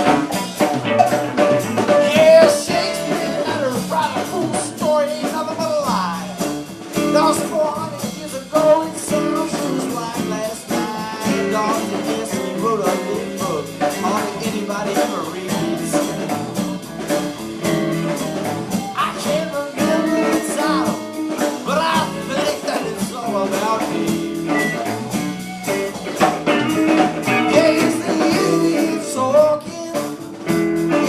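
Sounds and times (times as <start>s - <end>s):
live blues rock band: 0.0s - 31.0s.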